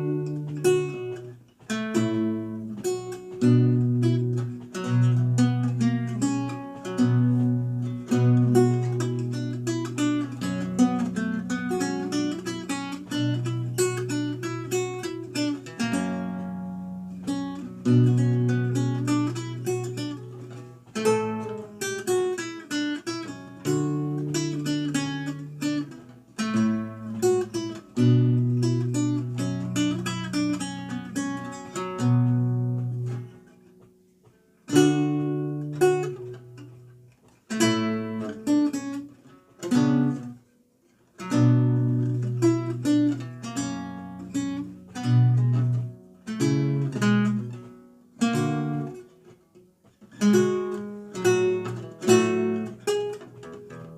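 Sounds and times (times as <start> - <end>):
solo lute playing: 0.0 - 53.9.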